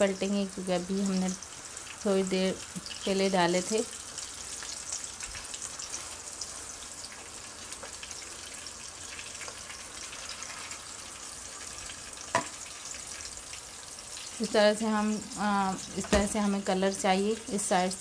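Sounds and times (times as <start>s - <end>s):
kebabs sizzling in oil: 0.0s - 18.0s.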